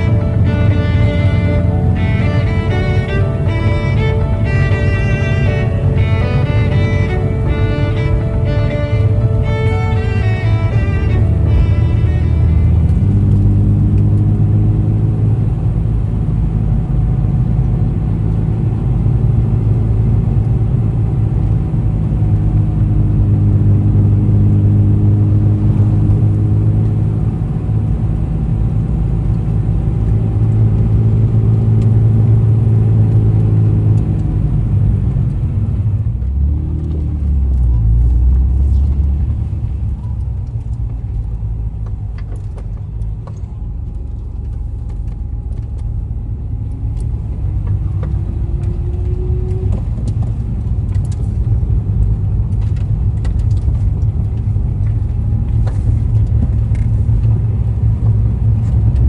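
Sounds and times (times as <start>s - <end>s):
car engine and exhaust running: 0.0s - 59.0s.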